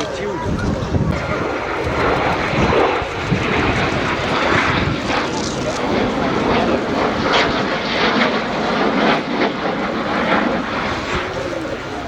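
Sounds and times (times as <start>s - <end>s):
aircraft flying past: 0.1s - 12.0s.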